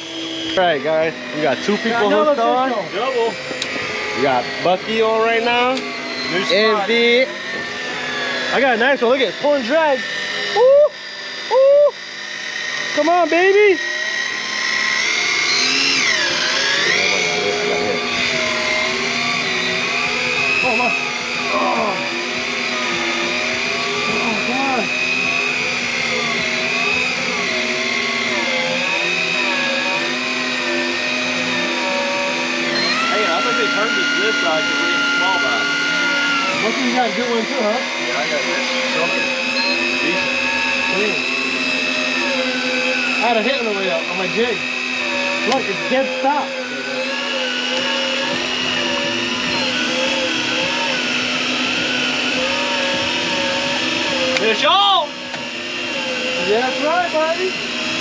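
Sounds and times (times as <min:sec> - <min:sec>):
electric fishing reel motor whining: 0:00.0 - 0:58.0.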